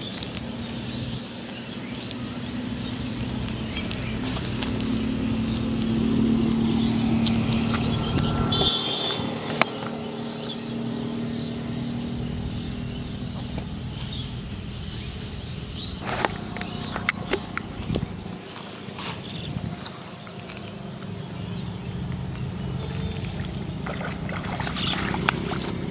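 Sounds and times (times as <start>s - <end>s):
vehicle engine hum: 0.0s - 25.9s.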